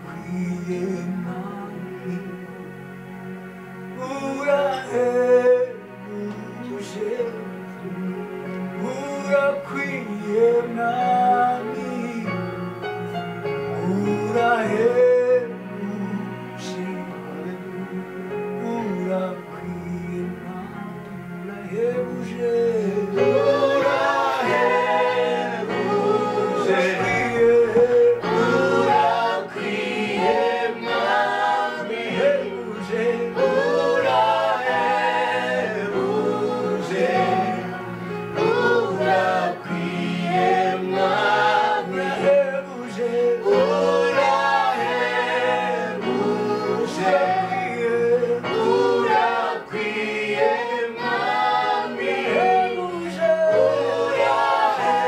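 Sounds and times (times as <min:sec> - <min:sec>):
choir singing gospel song: 0:00.0 - 0:55.0.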